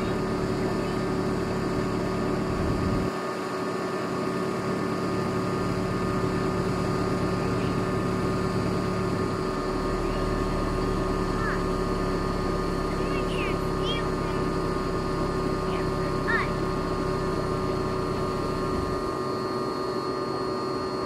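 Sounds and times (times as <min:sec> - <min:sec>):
engine running low rumble: 0:00.0 - 0:21.0.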